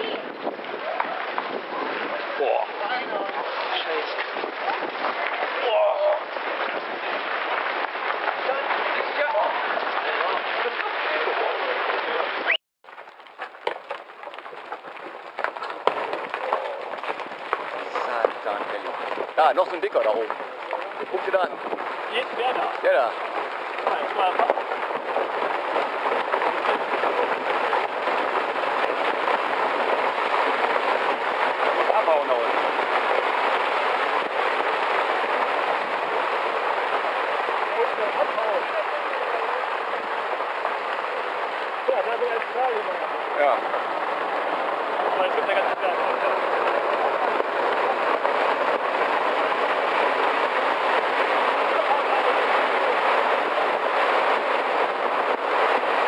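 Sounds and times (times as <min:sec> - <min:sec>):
rocks clattering down a slope: 0:00.0 - 0:56.0.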